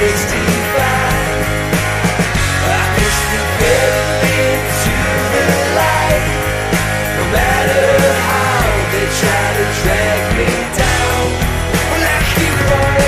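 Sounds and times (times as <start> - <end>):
grunge rock music: 0.0 - 13.0.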